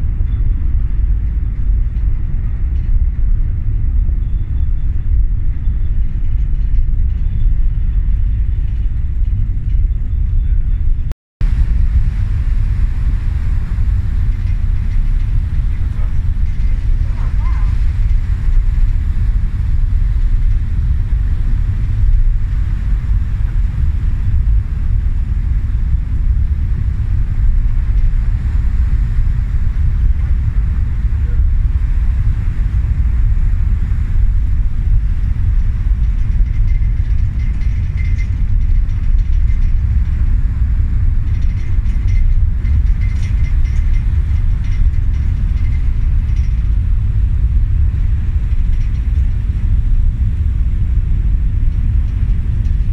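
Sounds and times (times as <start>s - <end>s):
deep ship engine rumble: 0.0s - 52.9s
wind on microphone: 0.0s - 52.9s.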